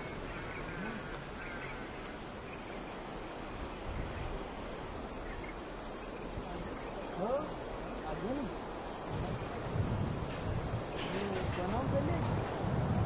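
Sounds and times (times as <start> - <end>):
constant low rumble: 0.0 - 13.0
crickets chirring: 0.0 - 13.0.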